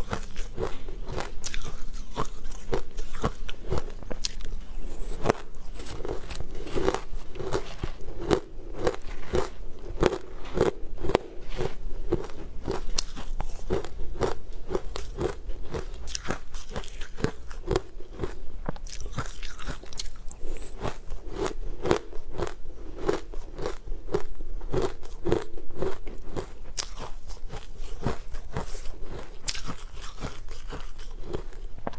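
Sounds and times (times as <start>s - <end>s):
crunchy chewing: 0.0s - 31.9s.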